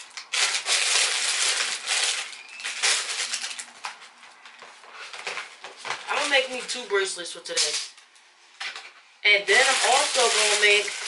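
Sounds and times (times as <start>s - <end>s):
rustling and handling noise: 0.0s - 11.0s.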